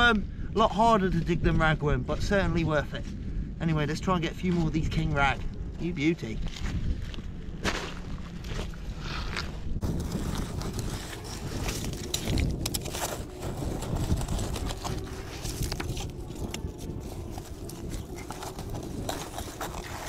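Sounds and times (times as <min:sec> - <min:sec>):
low rumble: 0:01.3 - 0:20.0.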